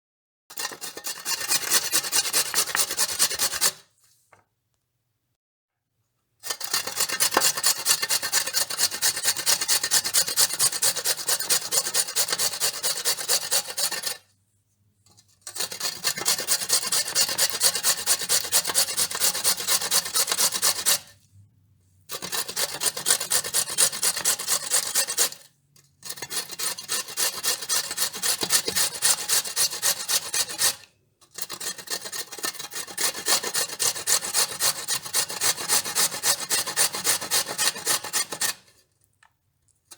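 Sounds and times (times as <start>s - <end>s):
carrot scraping on a grater: 0.5s - 3.9s, 6.4s - 14.3s, 15.4s - 21.2s, 22.1s - 38.8s.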